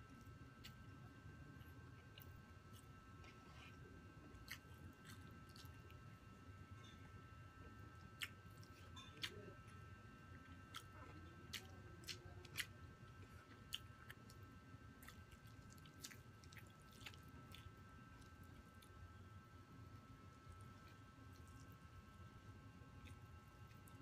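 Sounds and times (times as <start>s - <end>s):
quiet chewing: 0.0s - 24.0s.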